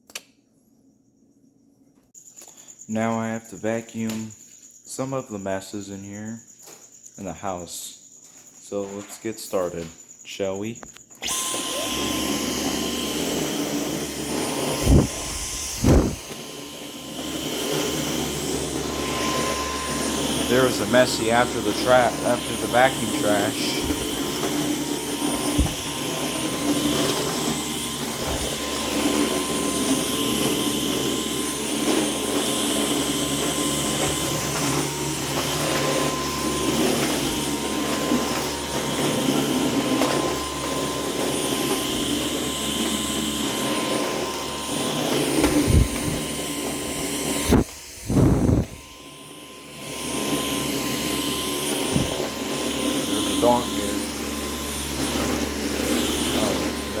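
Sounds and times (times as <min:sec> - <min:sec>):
cordless vacuum cleaner running: 0:11.2 - 0:57.0.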